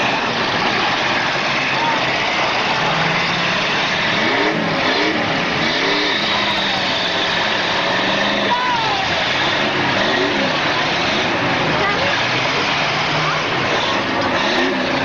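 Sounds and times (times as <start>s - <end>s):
car engines revving hard: 0.0s - 15.0s
constant din of engines: 0.0s - 15.0s.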